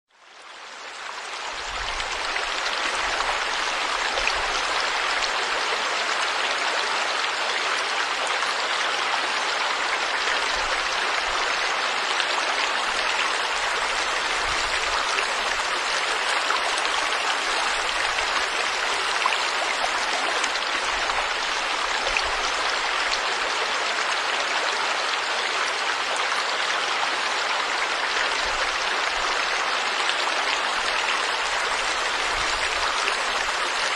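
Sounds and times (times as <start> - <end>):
river water rushing: 0.4 - 33.9.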